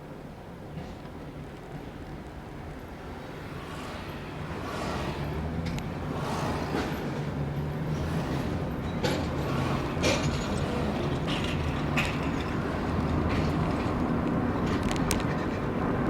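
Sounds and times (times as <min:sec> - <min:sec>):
car engine and exhaust drone: 0:01.4 - 0:16.0.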